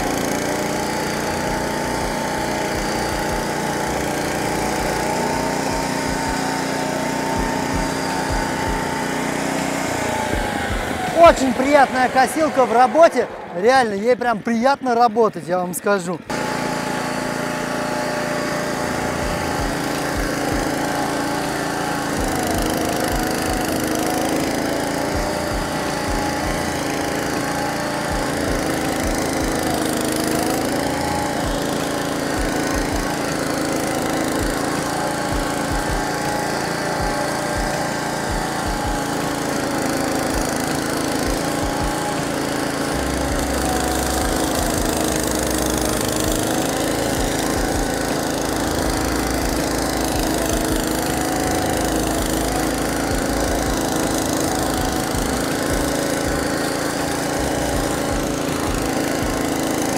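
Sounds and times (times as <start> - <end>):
flail mower cutting grass: 0.0 - 59.9.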